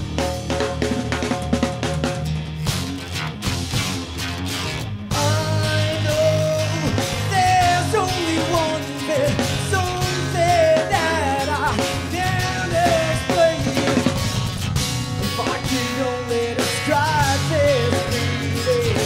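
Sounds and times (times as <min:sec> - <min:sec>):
bass and drum beat: 0:00.0 - 0:19.0
sliding lead melody: 0:00.0 - 0:19.0.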